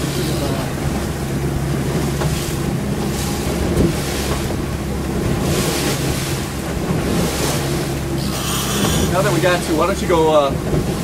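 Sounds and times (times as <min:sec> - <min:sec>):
boat engines running: 0:00.0 - 0:11.0
water rushing past hull: 0:00.0 - 0:11.0
wind buffeting microphone: 0:00.0 - 0:11.0.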